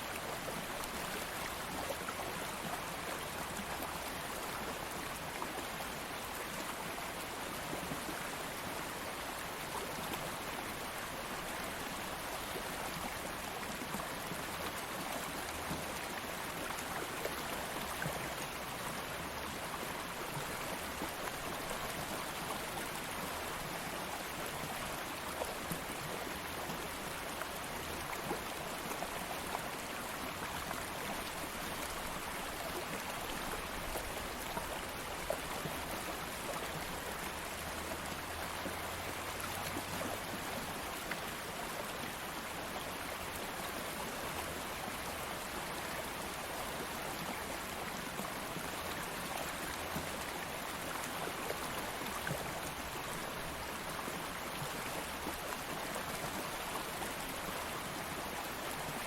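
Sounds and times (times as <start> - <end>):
water flowing over rocks: 0.0 - 59.0.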